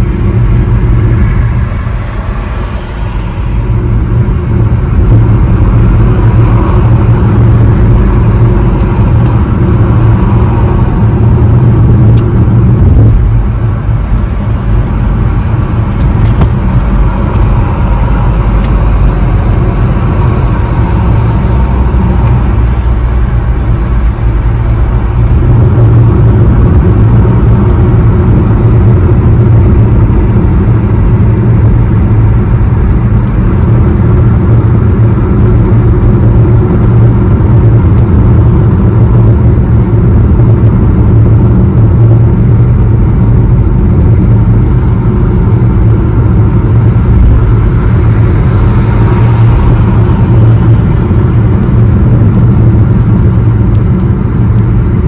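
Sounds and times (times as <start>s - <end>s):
car cabin road and engine rumble: 0.0s - 55.0s.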